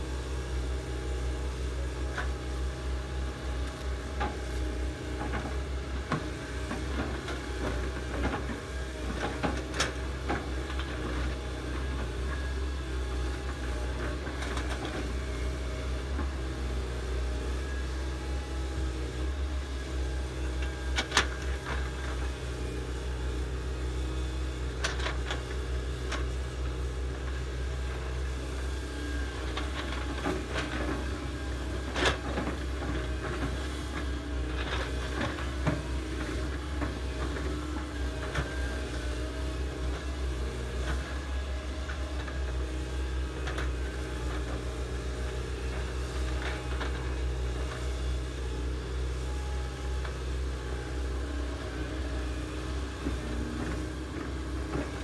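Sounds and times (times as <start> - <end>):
excavator diesel engines digging: 0.0 - 55.0.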